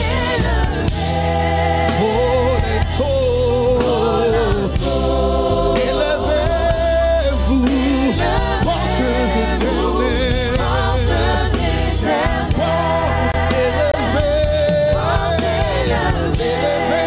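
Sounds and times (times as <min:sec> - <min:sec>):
gospel choir singing: 0:00.0 - 0:17.0
instrumental accompaniment: 0:00.0 - 0:17.0.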